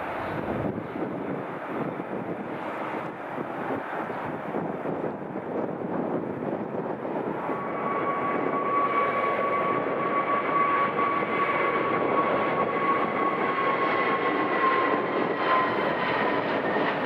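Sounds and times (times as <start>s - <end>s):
airliner engines rushing: 0.0s - 17.0s
high engine whine: 0.0s - 17.0s.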